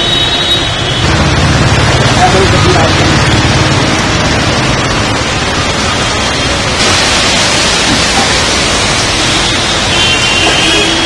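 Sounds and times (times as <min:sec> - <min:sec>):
heavy rain: 0:00.0 - 0:11.0
traffic on wet road: 0:00.0 - 0:11.0.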